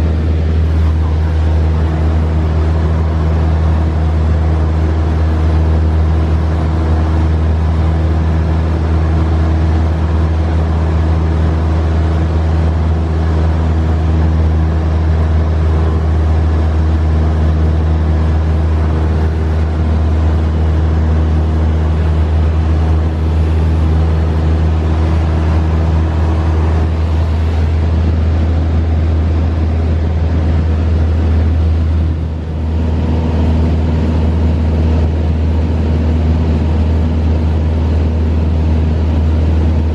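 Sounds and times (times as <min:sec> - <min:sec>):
small plane engine droning: 0:00.0 - 0:39.9.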